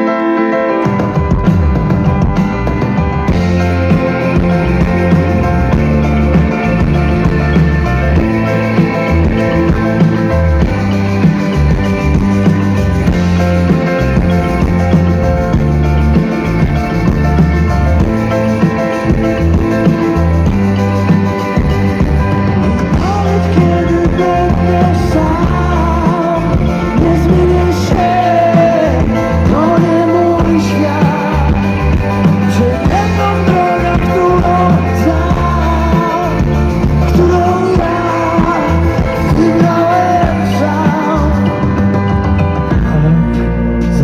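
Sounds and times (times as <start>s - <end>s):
live rock band playing: 0.0s - 44.0s
pitch-bending lead melody: 0.0s - 44.0s.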